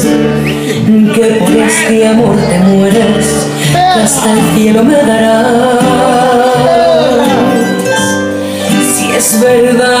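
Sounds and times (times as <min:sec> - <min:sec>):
instrumental backing: 0:00.0 - 0:10.0
pop ballad playing: 0:00.0 - 0:10.0
woman singing: 0:00.0 - 0:10.0.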